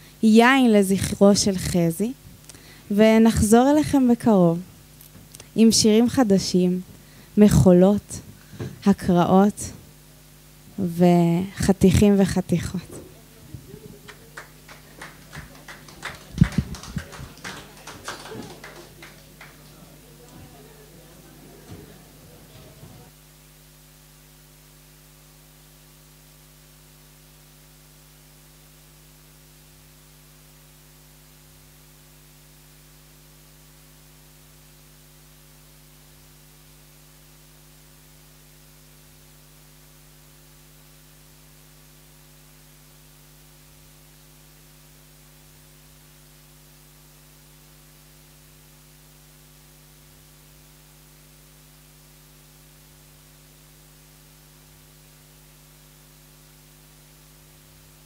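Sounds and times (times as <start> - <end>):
constant hiss: 0.0 - 58.0
electrical hum: 0.0 - 58.0.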